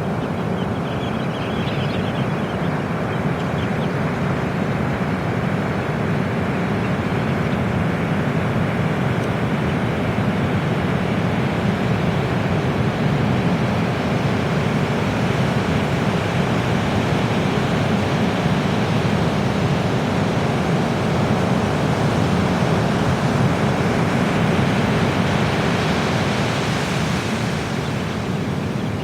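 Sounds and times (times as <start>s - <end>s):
ocean surf washing onto beach: 2.8s - 29.0s.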